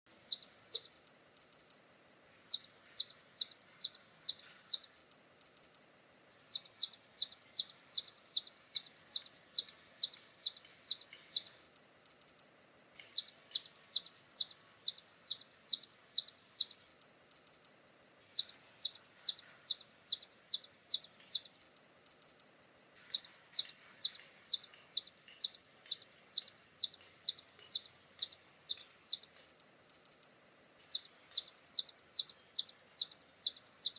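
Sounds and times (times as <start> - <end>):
hummingbird chip notes: 6.3 - 33.9.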